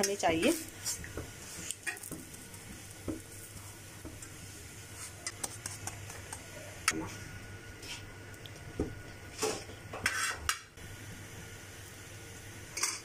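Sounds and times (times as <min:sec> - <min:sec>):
bun sizzling in oil: 0:00.0 - 0:13.0.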